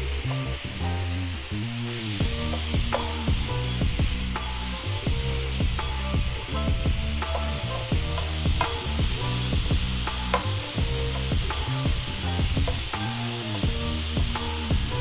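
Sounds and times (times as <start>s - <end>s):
background music: 0.0s - 15.0s
meat sizzling: 0.0s - 15.0s.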